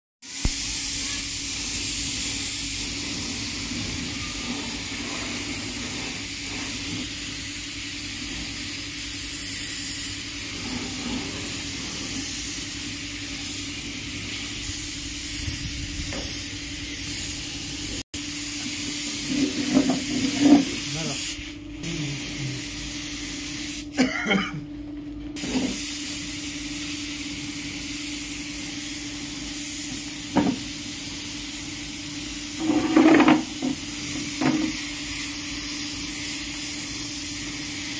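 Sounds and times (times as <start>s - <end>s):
spray gun hissing: 0.2s - 23.9s, 25.4s - 37.9s.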